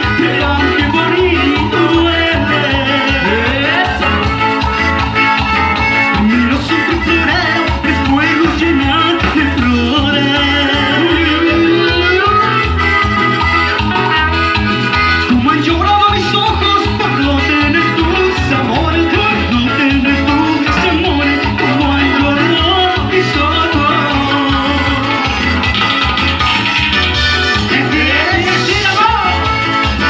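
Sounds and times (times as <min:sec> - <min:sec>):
latin dance band playing: 0:00.0 - 0:30.0
pulsing bass beat: 0:00.0 - 0:30.0.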